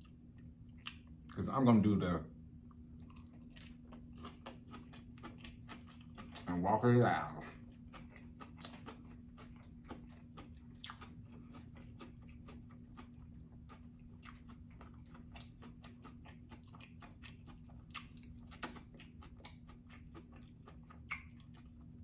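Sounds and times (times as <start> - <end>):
chewing food: 0.0 - 1.3, 2.6 - 22.0.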